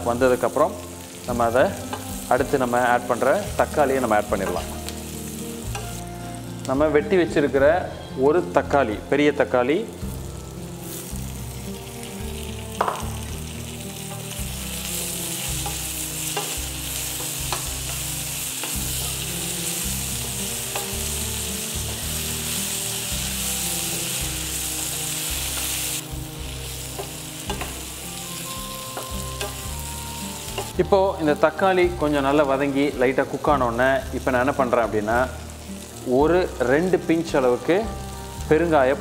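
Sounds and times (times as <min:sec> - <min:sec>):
vegetables sizzling in oil: 0:00.0 - 0:07.0, 0:09.0 - 0:39.0.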